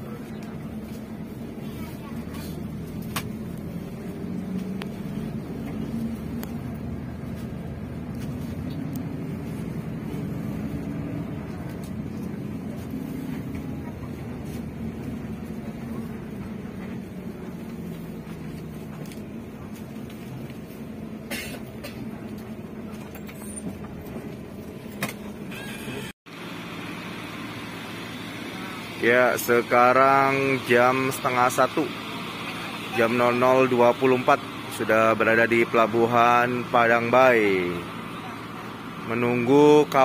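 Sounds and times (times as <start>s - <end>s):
bus engine rumbling: 0.0s - 40.0s.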